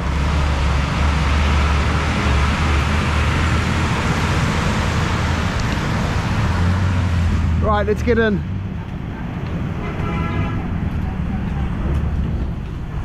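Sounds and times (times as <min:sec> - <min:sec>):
traffic on flooded road: 0:00.0 - 0:13.0.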